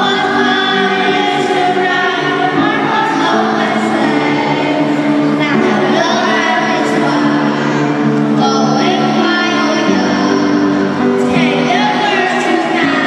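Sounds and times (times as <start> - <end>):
children's choir singing a carol: 0.0 - 13.0
piano accompaniment: 0.0 - 13.0.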